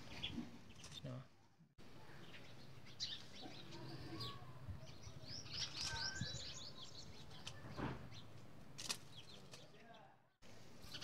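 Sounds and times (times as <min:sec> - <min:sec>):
low outdoor background: 0:00.0 - 0:11.0
small birds chirping: 0:00.0 - 0:11.0.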